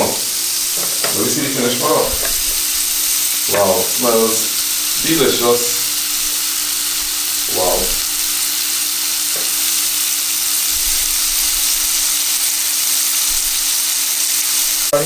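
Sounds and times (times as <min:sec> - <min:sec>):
shrimp sizzling in a pan: 0:00.0 - 0:15.0.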